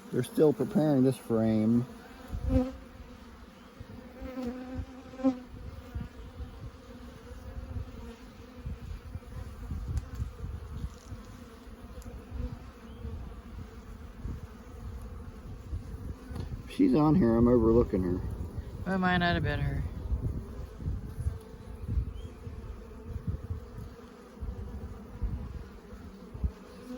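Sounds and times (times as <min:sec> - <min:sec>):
bees buzzing: 0:00.0 - 0:26.9.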